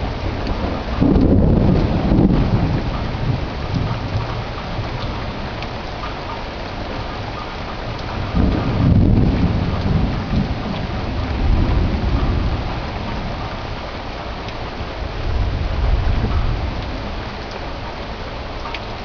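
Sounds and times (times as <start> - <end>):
rain falling steadily: 0.0 - 19.0
thunder rumbling: 0.0 - 19.0.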